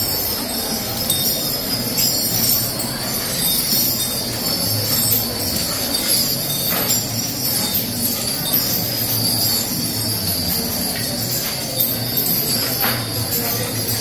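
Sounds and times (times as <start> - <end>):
bells and chains jingling: 0.0 - 14.0.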